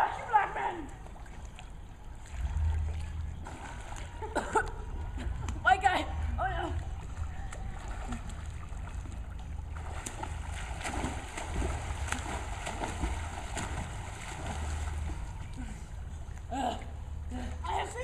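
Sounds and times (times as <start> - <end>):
swimmers splashing in water: 0.0 - 17.1
steady low rumble: 0.9 - 18.0.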